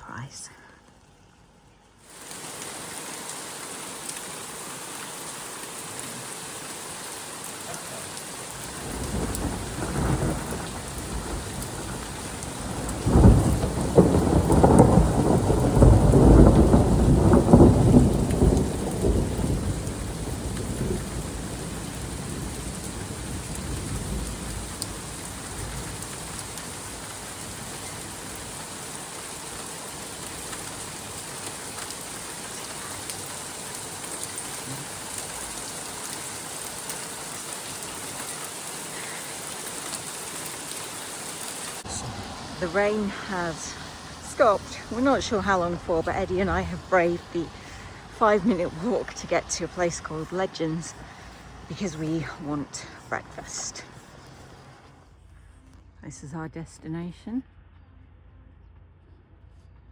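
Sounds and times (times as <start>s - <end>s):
steady rain falling: 1.8s - 55.2s
rolling thunder: 4.5s - 54.8s.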